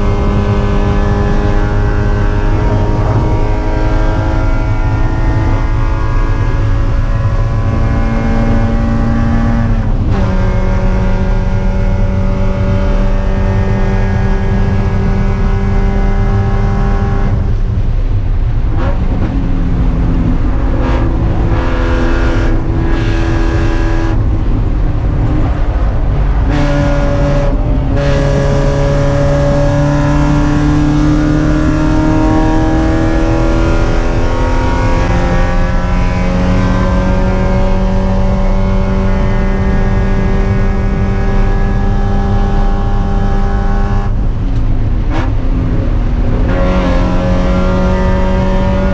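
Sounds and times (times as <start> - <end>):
car engine at racing revs: 0.0 - 48.9
road and wind noise rumble: 0.0 - 48.9.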